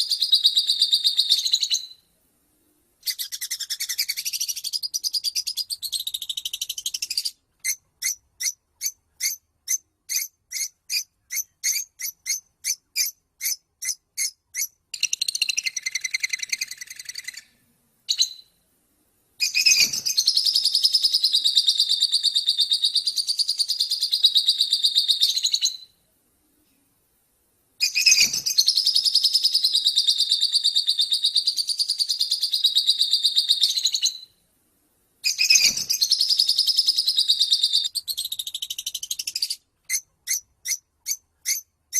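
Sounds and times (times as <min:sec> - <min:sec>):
songbird chirps: 0:00.0 - 0:41.9.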